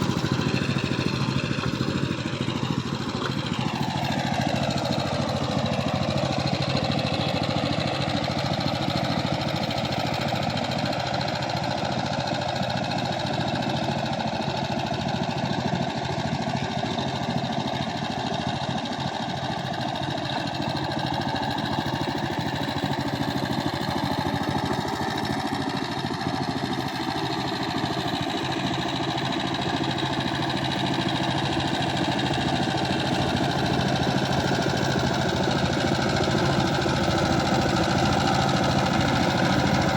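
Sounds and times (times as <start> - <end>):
tiller engine chugging: 0.0 - 39.9.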